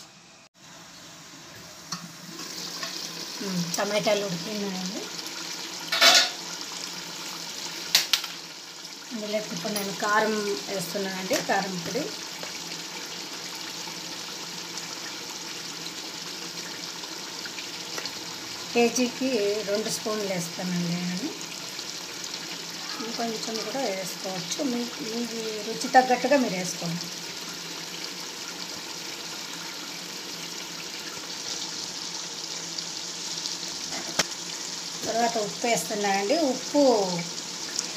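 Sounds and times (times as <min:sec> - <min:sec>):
gravy simmering in a pot: 0:00.6 - 0:37.9.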